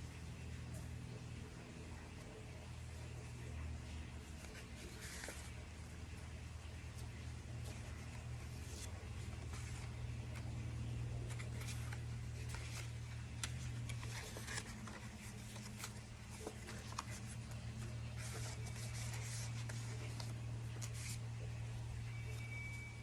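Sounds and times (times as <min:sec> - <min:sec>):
steady low hum: 0:00.0 - 0:23.0
scratching and rustling handling: 0:00.7 - 0:23.0.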